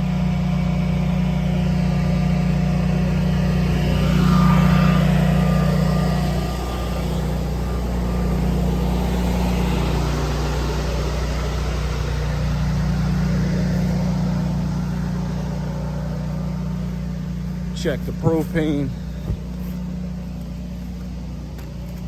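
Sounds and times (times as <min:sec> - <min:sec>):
generator droning: 0:00.0 - 0:22.0.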